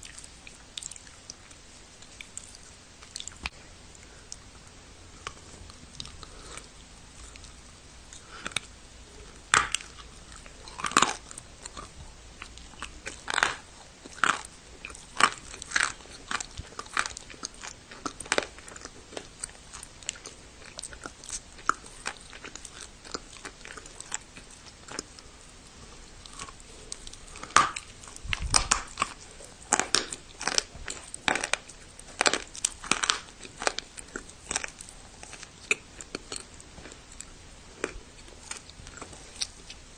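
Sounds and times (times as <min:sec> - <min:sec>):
chewing dry clay crunches: 0:00.0 - 0:04.5, 0:05.2 - 0:39.9.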